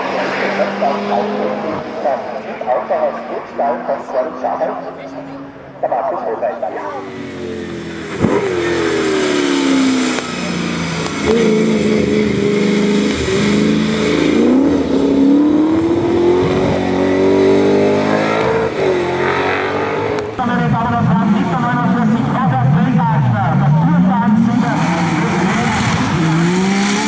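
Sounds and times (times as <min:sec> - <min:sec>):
race car engine at full throttle: 0:00.0 - 0:27.0.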